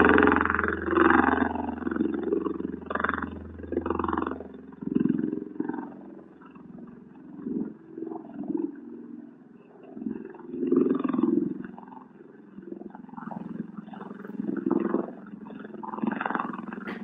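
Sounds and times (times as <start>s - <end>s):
rotor throbbing drone: 0.0s - 17.0s.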